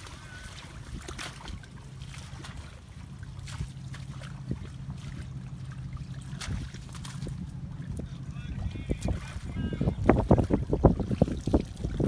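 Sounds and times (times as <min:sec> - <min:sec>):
shallow water sloshing and splashing: 0:00.0 - 0:12.0
steady low hum: 0:00.0 - 0:12.0.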